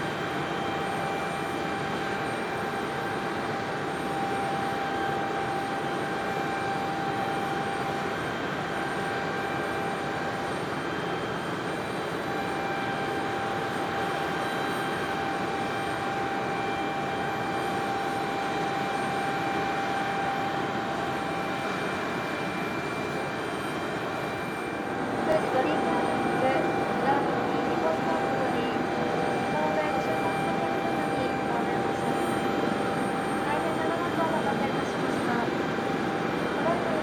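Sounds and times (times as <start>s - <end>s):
jet turbine whine: 0.0s - 37.0s.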